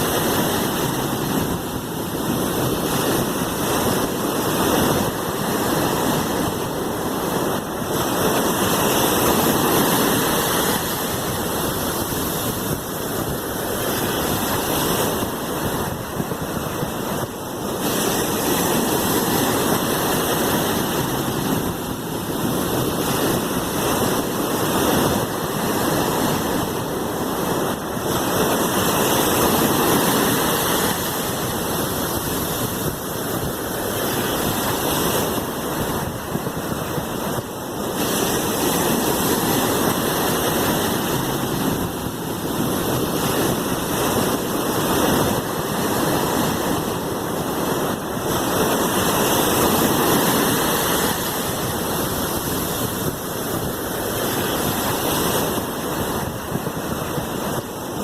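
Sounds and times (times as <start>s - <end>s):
sea waves rushing: 0.0s - 58.0s.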